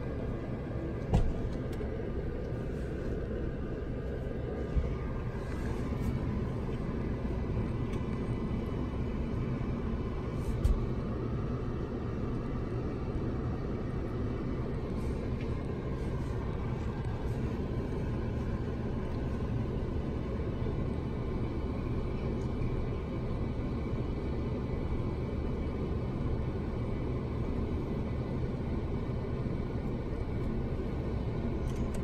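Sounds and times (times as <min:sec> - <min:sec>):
car idling inside cabin: 0:00.0 - 0:32.0.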